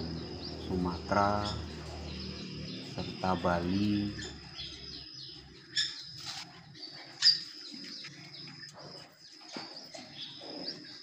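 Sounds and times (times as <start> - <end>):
sharp bird calls: 0.0 - 11.0
small birds chirping: 0.0 - 11.0.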